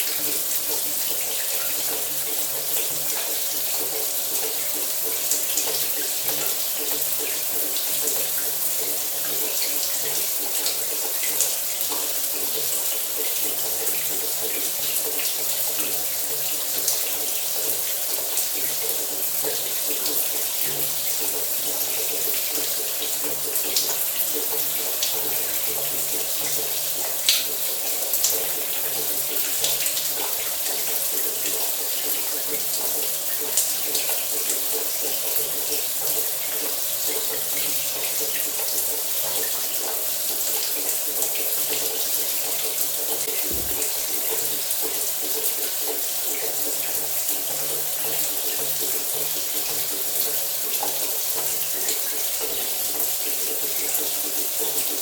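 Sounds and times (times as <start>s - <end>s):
shower water running: 0.0s - 55.0s.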